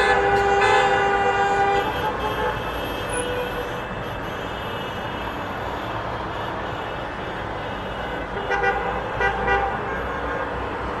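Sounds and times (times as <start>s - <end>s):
horns tooting: 0.0s - 10.6s.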